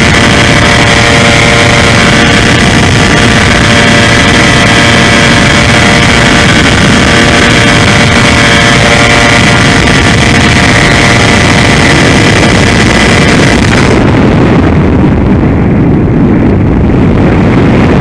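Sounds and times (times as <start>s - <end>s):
electric motor and propeller whine: 0.0s - 18.0s
rushing wind noise: 0.0s - 18.0s.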